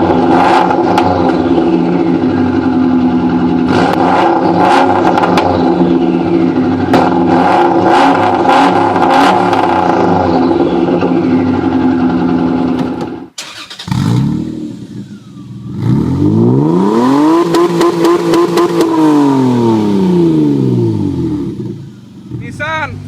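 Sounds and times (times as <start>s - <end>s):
car exhaust revving: 0.0s - 23.0s
exhaust cracks: 0.0s - 23.0s.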